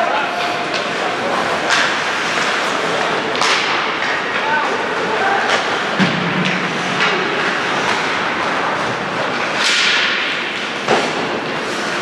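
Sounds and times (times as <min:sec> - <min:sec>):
arena noise: 0:00.0 - 0:12.0
skates scraping on ice: 0:00.0 - 0:12.0
hockey sticks and puck knocking: 0:00.2 - 0:12.0.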